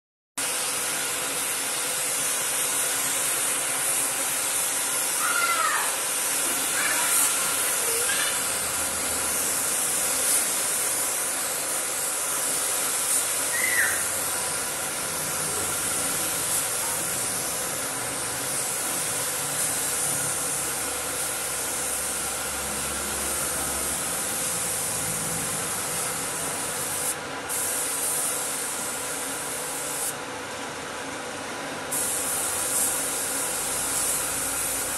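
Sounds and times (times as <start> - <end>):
paint spray gun hissing: 0.4 - 30.2, 31.9 - 34.9.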